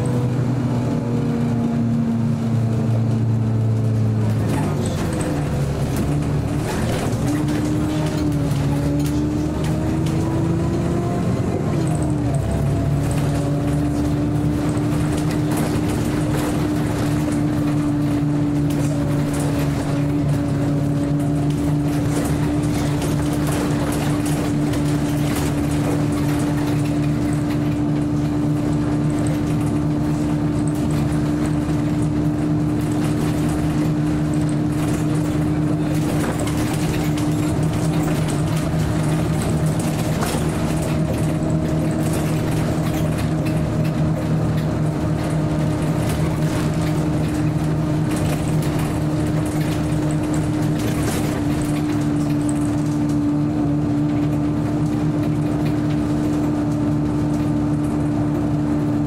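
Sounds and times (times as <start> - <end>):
bus engine hum: 0.0 - 59.0.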